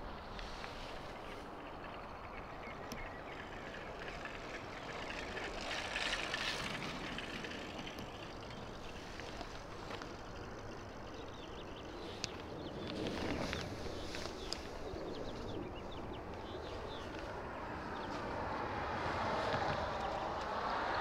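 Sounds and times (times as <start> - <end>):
distant traffic: 0.0 - 21.0.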